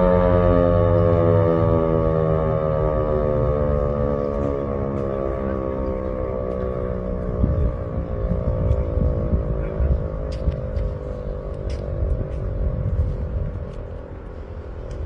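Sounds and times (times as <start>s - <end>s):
low rumble: 0.0s - 15.0s
warning siren winding down: 0.0s - 15.0s.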